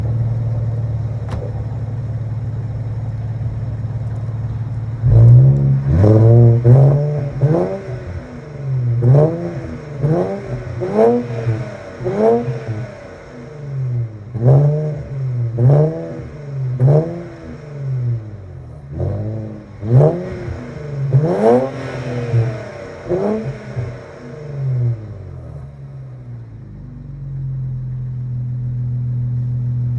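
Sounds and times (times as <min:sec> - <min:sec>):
car engine idling: 0:00.0 - 0:29.9
car engine revving in blips: 0:00.0 - 0:29.9.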